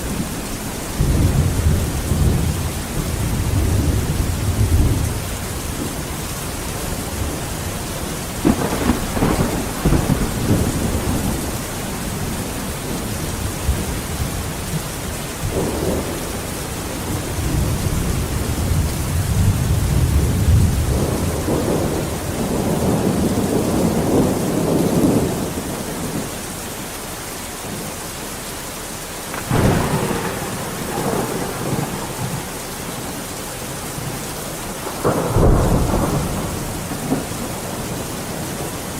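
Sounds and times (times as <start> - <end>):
rolling thunder: 0.0 - 26.3, 29.3 - 38.9
steady rain: 0.0 - 38.9.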